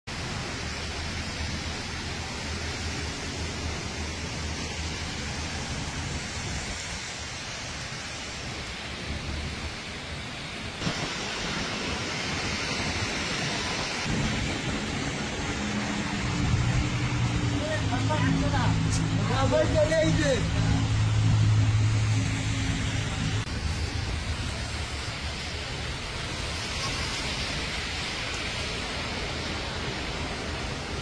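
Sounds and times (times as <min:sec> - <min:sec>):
rain hissing: 0:00.0 - 0:31.0
running water: 0:00.1 - 0:31.0.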